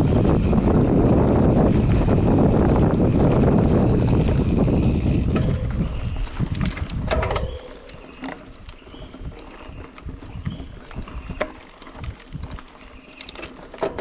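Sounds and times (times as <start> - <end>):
bicycle clicks and rattles: 0.0 - 14.0
wind buffeting microphone: 0.0 - 14.0.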